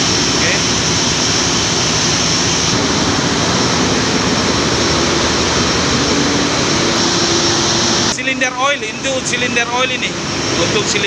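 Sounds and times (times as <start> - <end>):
engine room machinery running: 0.0 - 11.0
low hum: 0.0 - 11.0.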